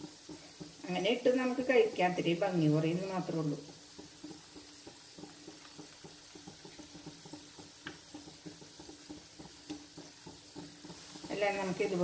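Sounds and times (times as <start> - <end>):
dough frying in hot oil: 0.0 - 12.0
oil crackling and popping: 0.0 - 12.0.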